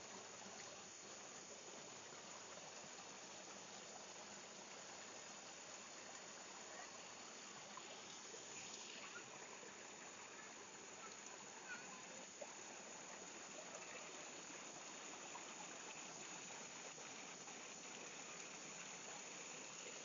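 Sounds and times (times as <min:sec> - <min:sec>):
stream water splashing over rocks: 0:00.0 - 0:20.0.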